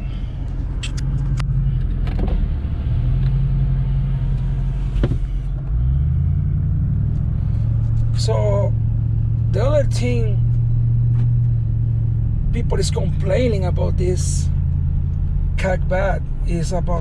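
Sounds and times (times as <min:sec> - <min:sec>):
low exhaust drone: 0:00.0 - 0:17.0.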